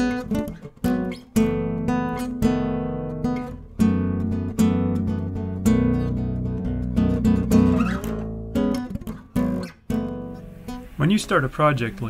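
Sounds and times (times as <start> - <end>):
acoustic guitar strummed chords: 0.0 - 11.6.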